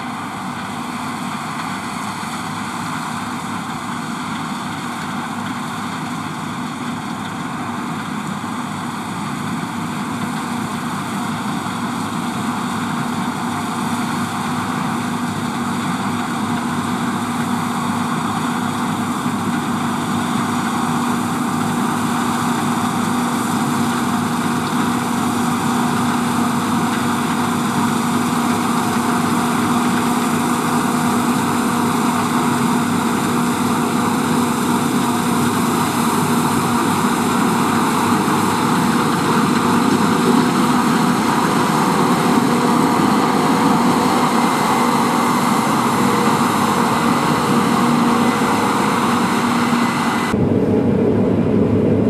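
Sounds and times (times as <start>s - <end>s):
combine harvester running: 0.0s - 52.0s.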